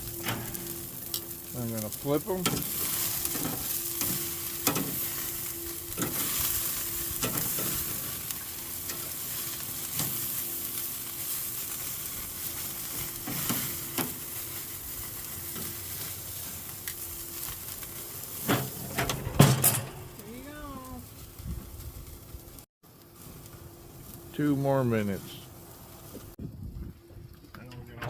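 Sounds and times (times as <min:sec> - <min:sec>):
steaks sizzling over charcoal: 0:00.0 - 0:27.5.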